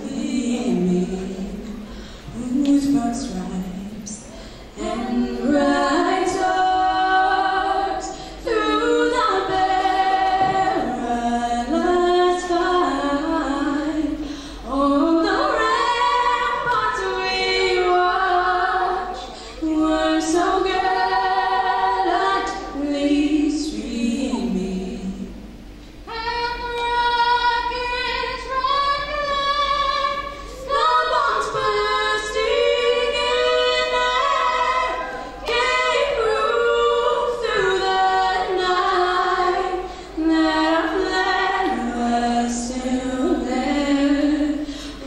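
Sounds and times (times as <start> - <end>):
woman singing a cappella: 0.0 - 25.4, 26.1 - 45.0.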